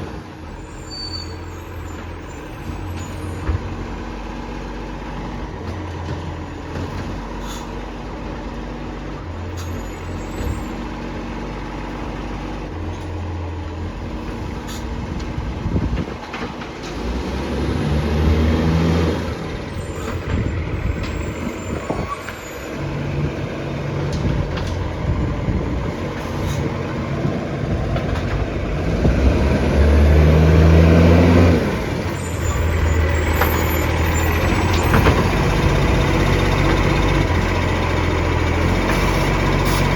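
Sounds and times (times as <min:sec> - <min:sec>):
garbage truck diesel engine revving: 0:02.1 - 0:39.9.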